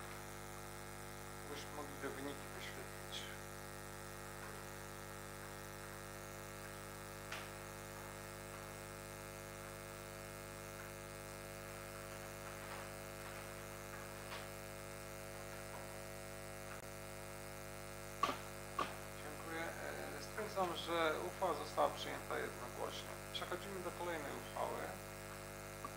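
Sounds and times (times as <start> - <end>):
electrical mains hum: 0.0 - 25.9.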